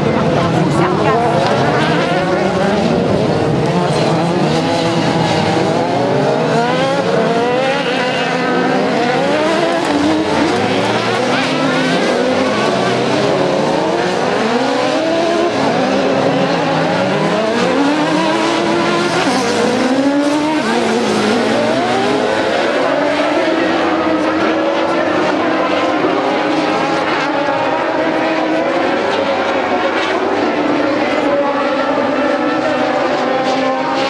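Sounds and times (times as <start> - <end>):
racing buggy engines revving: 0.0 - 34.0.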